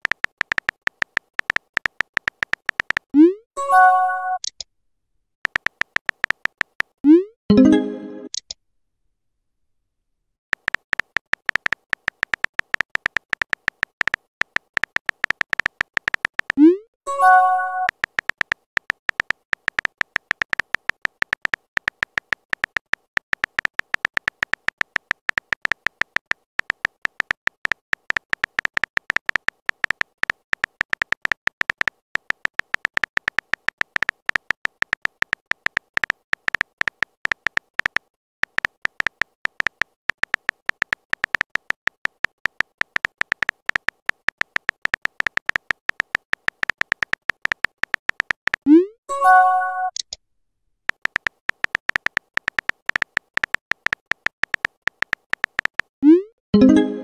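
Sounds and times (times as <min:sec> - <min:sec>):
rapid typing clicks: 0:00.0 - 0:03.1, 0:05.4 - 0:07.0, 0:10.5 - 0:16.7, 0:17.8 - 0:48.7, 0:50.9 - 0:55.9.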